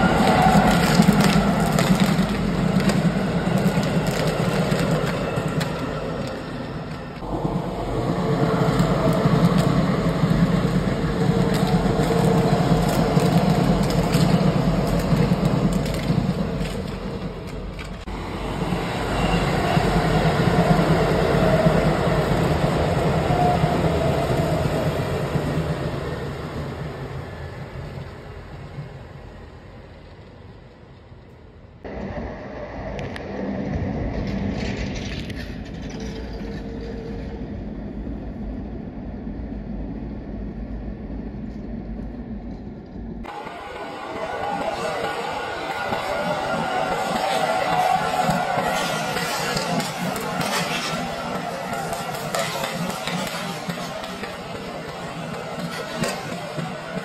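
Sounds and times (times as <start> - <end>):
electric trains running past: 0.0 - 57.0.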